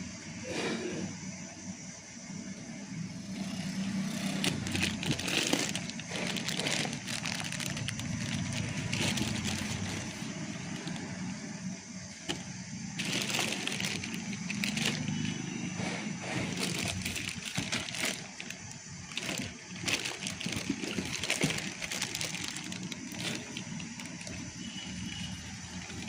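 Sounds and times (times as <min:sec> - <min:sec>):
motor humming: 0:03.1 - 0:26.0.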